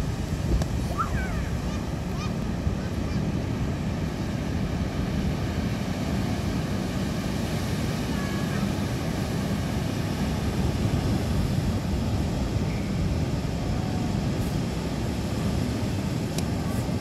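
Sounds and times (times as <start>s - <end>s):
ocean surf breaking: 0.0s - 17.0s
wind on microphone: 0.0s - 17.0s.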